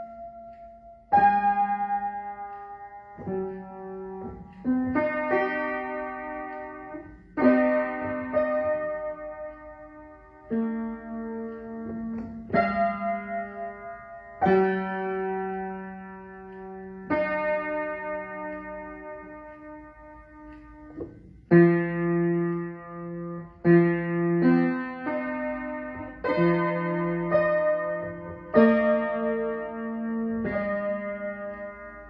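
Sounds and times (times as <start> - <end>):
piano chords ringing: 0.0 - 32.0.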